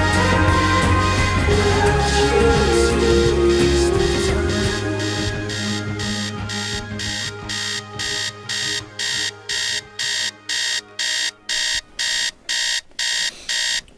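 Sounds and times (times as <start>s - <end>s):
music: 0.0s - 11.8s
alarm clock beeping: 0.6s - 13.8s.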